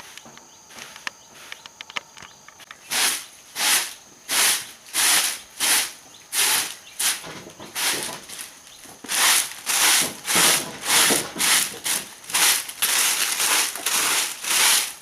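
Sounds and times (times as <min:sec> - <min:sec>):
wood scraping strokes: 0:02.9 - 0:15.0.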